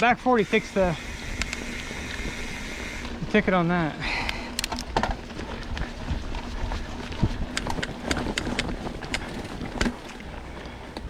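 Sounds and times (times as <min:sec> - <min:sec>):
bike clicks and rattles: 0:00.0 - 0:11.0
wind buffeting microphone: 0:00.0 - 0:11.0.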